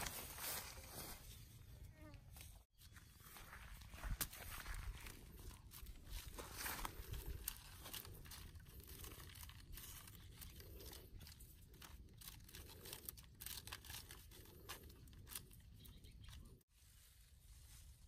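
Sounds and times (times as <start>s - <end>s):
rustling in bamboo basket: 0.0s - 1.6s, 2.4s - 18.0s.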